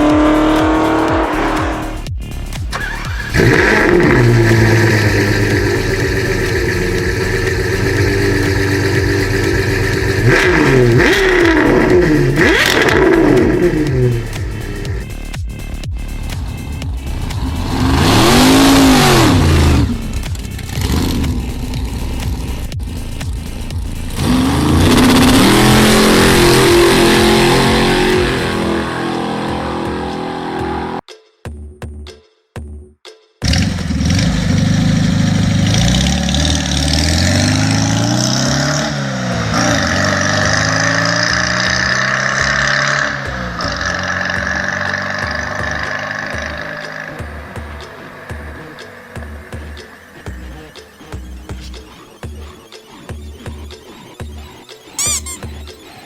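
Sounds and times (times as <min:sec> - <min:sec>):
car engine idling and revving: 0:00.0 - 0:31.1, 0:33.4 - 0:56.0.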